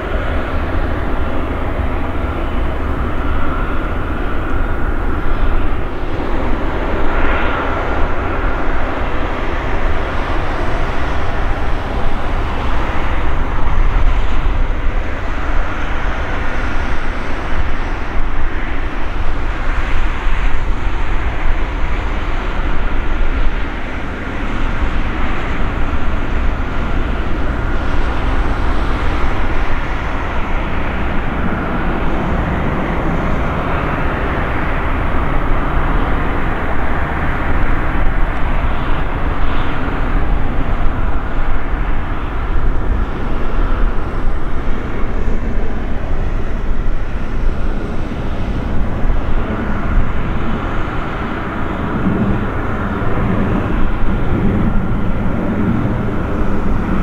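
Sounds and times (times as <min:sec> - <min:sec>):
jet engine rumble with whine: 0:00.0 - 0:57.0.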